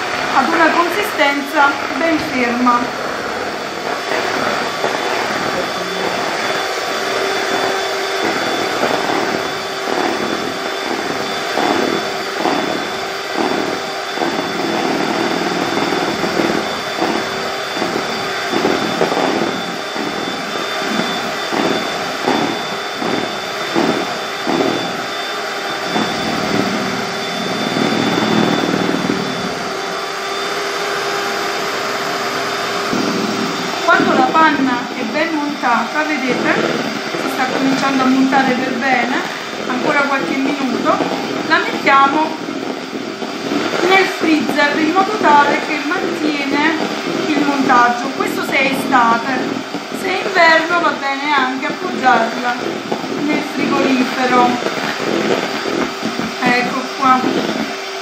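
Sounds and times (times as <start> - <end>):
electric mixer running: 0.0 - 58.0.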